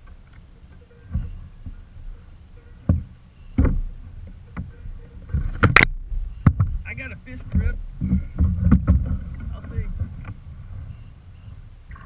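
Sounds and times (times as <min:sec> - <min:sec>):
low rumble of handling noise: 0:00.0 - 0:12.0.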